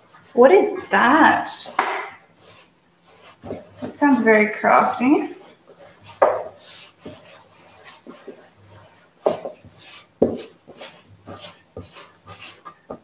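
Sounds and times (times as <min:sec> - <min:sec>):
spoon scraping dough in metal bowl: 0:00.0 - 0:13.0.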